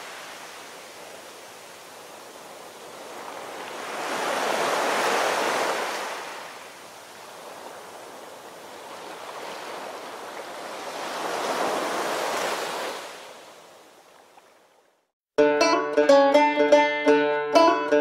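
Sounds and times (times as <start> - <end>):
sea waves washing: 0.0 - 14.6.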